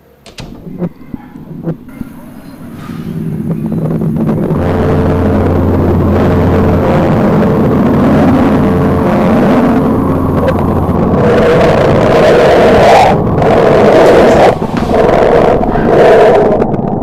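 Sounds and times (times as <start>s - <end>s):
low hum: 0.0s - 17.0s
low rumbling drone: 0.0s - 17.0s.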